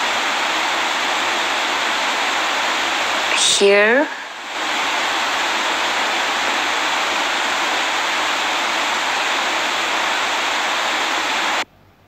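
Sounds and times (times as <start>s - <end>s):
loud rushing hiss: 0.0s - 11.6s.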